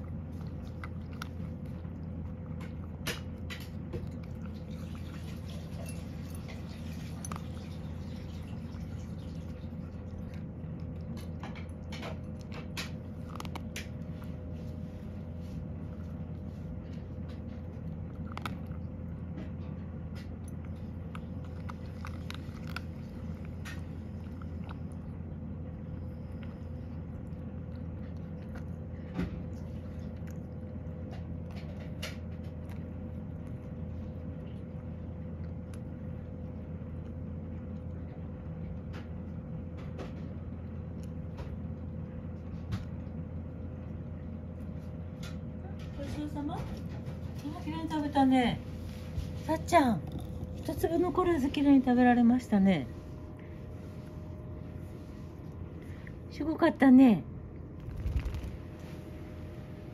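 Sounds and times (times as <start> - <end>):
cat crunching dry kibble: 0.0 - 48.0, 48.7 - 51.9, 57.3 - 59.9
cat licking a ceramic bowl: 0.0 - 48.0, 48.6 - 51.5
steady low hum: 0.0 - 59.9.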